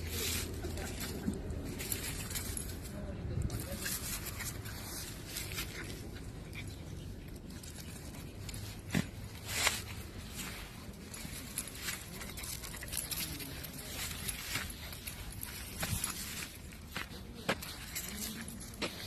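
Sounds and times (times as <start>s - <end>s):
dogs playing: 0.0s - 19.0s.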